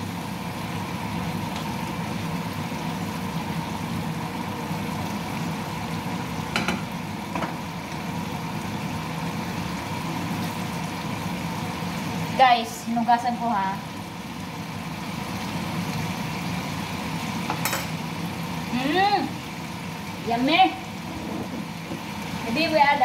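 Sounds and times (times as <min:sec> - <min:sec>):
chicken sizzling in a pan: 0:00.0 - 0:23.0
mechanical hum: 0:00.0 - 0:23.0.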